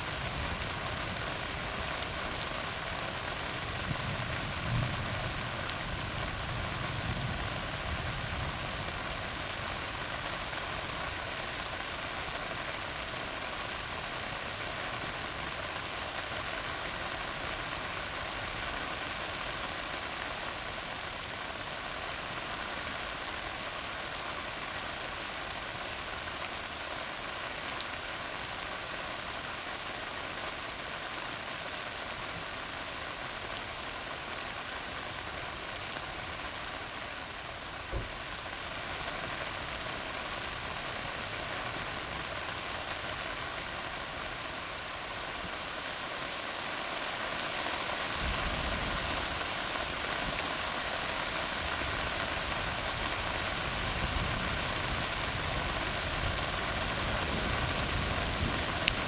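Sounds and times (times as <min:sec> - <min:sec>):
rain on a road: 0:00.0 - 0:59.0.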